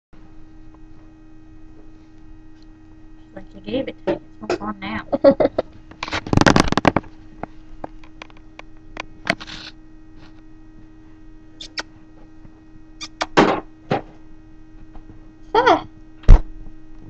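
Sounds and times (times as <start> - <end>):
steady low hum: 0.2 - 17.0.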